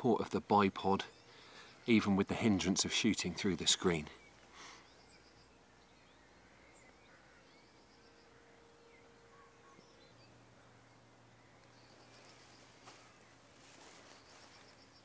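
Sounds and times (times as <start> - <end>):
distant bird chirps: 0.0 - 15.0.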